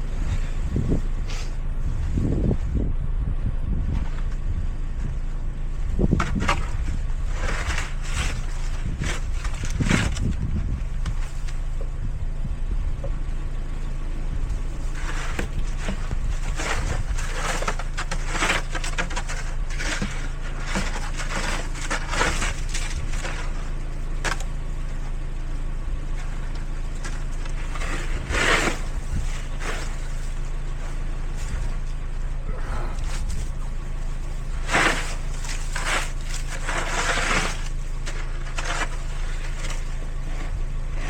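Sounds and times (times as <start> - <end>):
scraping or crunching strokes: 0.0 - 2.9, 5.9 - 11.7, 14.4 - 25.3, 25.9 - 41.0
car rumbling: 0.0 - 41.0.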